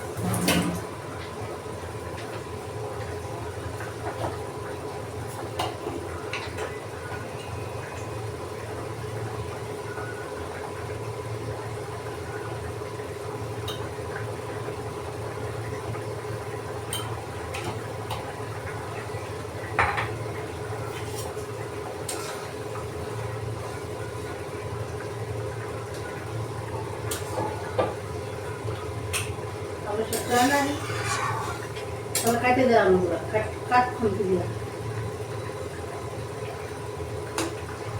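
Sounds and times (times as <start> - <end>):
steady background hum: 0.0 - 37.9.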